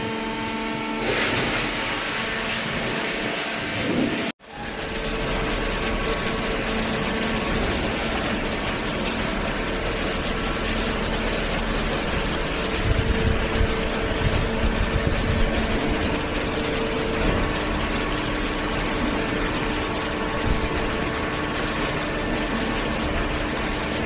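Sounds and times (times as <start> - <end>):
baling machinery humming: 0.0 - 24.0.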